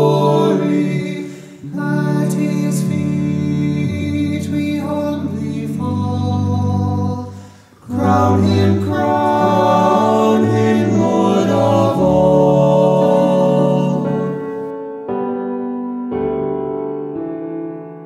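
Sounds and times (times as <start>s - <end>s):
male vocal ensemble singing: 0.0s - 14.7s.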